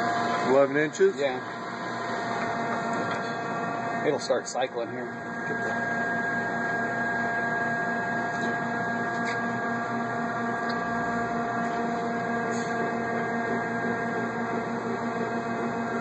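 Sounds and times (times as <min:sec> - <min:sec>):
grinder humming and whining: 0:00.0 - 0:16.0.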